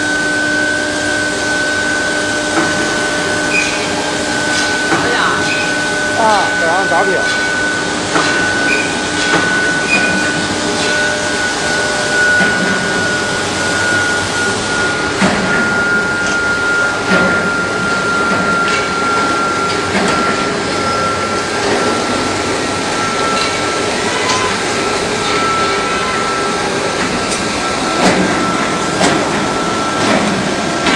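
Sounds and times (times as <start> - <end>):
furnace high whine: 0.0 - 30.9
loud noisy hum: 0.0 - 30.9.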